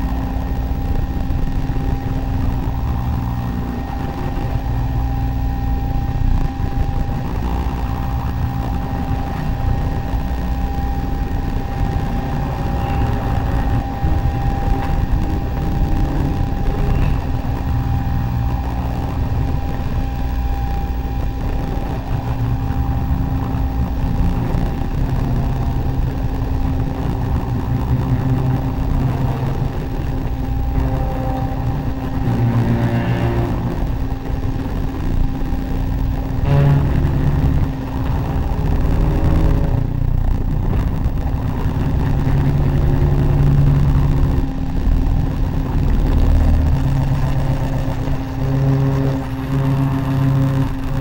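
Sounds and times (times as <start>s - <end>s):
dense low rumble: 0.0s - 51.0s
lower held tone: 0.0s - 51.0s
steady mid-pitched tone: 0.0s - 51.0s.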